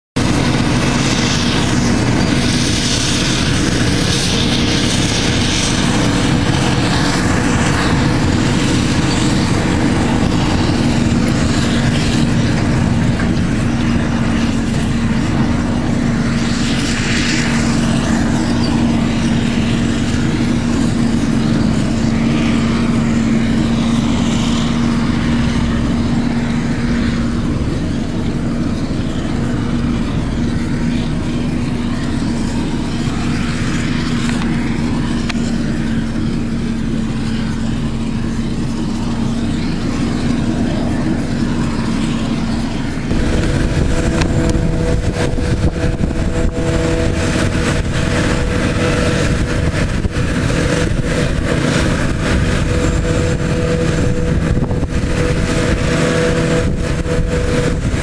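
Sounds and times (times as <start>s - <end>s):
tractor rumbling: 0.2s - 58.0s.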